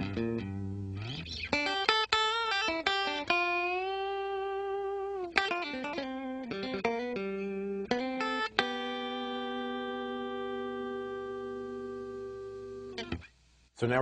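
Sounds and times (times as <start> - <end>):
electric guitar lead: 0.0 - 13.3.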